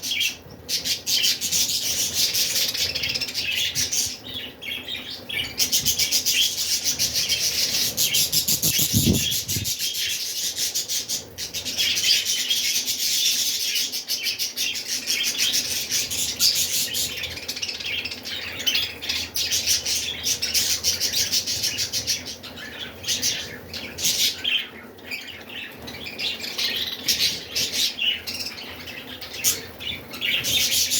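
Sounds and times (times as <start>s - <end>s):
budgerigars chattering and chirping: 0.1s - 30.9s.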